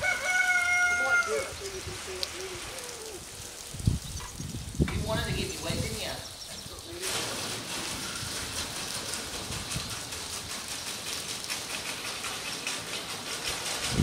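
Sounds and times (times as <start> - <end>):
hose water spraying on metal roof: 0.0 - 14.0.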